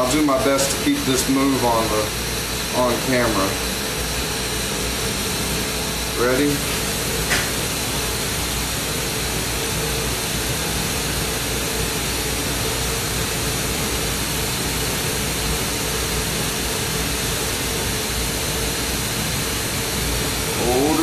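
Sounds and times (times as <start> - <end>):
torch flame hissing: 0.0 - 21.0.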